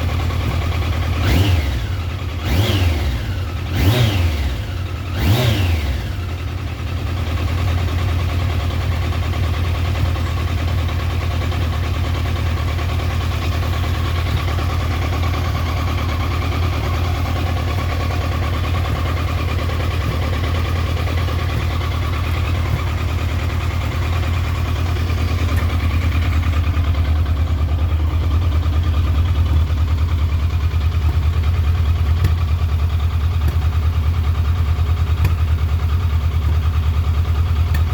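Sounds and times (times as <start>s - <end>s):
motorcycle engine idling roughly: 0.0s - 37.9s
motorcycle engine revving: 0.0s - 37.9s.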